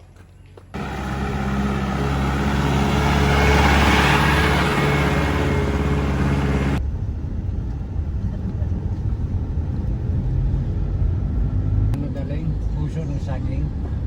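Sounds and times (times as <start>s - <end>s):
road noise: 0.5s - 14.0s
vehicle engine running: 0.7s - 14.0s.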